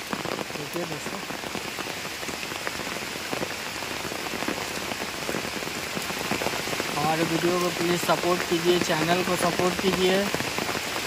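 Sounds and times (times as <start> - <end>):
rain hissing: 0.0 - 11.0
raindrop hits: 0.0 - 11.0.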